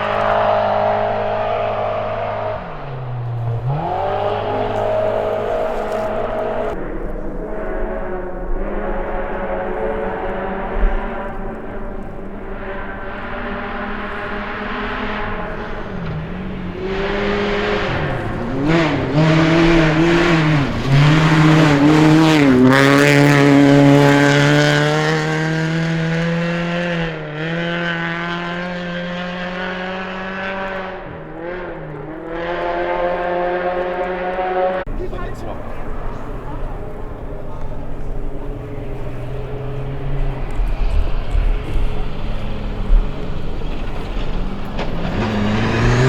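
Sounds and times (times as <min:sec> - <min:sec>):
engine accelerating hard: 0:00.0 - 0:46.0.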